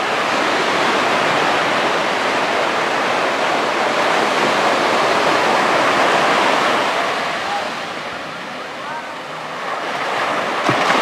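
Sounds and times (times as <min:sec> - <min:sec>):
sea surf washing in: 0:00.0 - 0:11.0.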